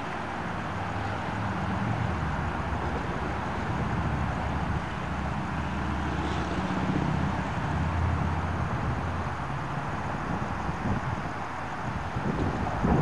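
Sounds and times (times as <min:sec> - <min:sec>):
low engine rumble: 0:00.0 - 0:13.0
outdoor background noise: 0:00.0 - 0:13.0.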